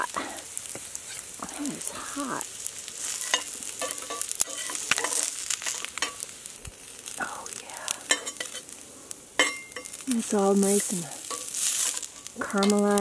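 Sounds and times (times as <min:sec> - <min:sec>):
crackles and pops: 0:00.0 - 0:13.0
food sizzling in a pan: 0:00.0 - 0:13.0.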